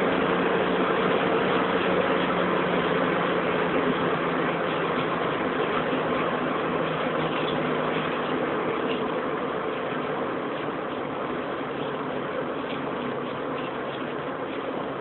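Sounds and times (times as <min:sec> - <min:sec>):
car engine cruising: 0:00.0 - 0:15.0.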